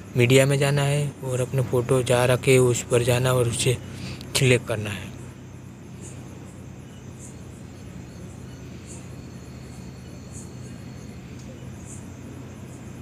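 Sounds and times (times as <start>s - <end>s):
background hiss: 0.0s - 13.0s
low electrical hum: 0.0s - 13.0s
faint high-pitched chirps: 1.3s - 13.0s.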